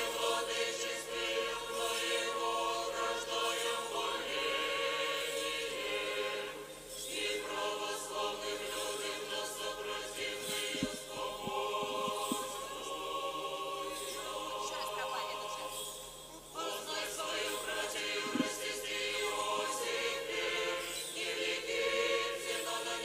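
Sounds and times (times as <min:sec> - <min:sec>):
church choir singing unaccompanied: 0:00.0 - 0:23.0.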